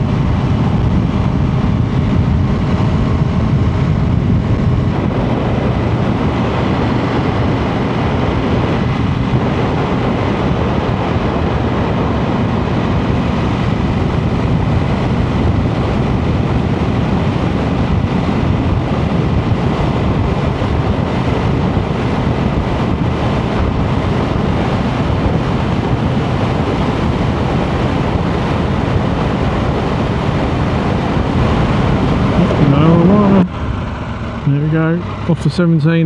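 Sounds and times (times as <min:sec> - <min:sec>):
motorcycle wind and road noise: 0:00.0 - 0:36.0
wind buffeting microphone: 0:00.0 - 0:36.0.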